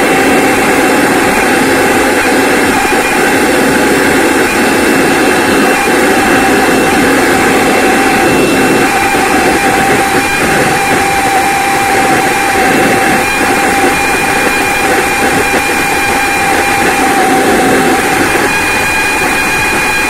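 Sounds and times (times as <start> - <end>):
air blower whistle tone: 0.0 - 20.0.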